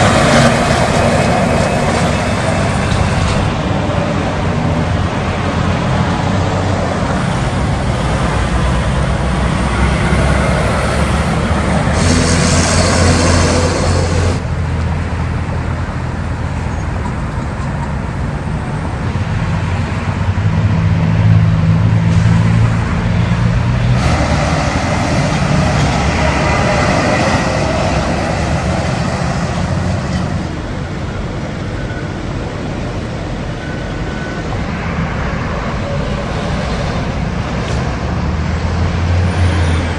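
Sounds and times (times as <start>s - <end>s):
truck engine drone: 0.0s - 39.9s
trucks and cars driving by: 0.0s - 39.9s.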